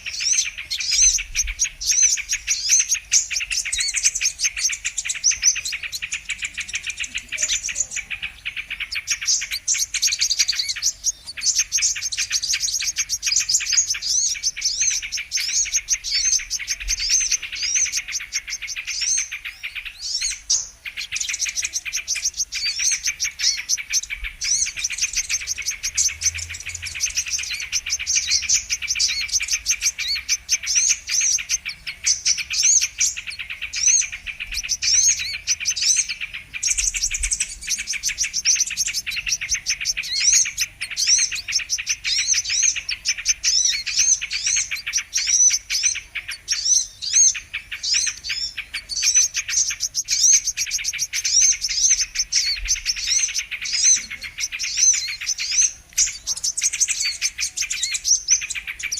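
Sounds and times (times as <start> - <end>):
birds chirping and trilling: 0.0 - 58.9.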